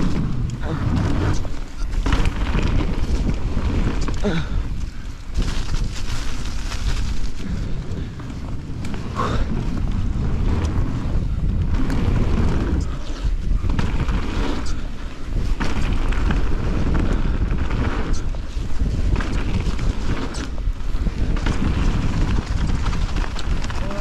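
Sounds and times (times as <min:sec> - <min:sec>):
bike tyres rumbling and rattling: 0:00.0 - 0:24.0
wind buffeting microphone: 0:00.0 - 0:24.0.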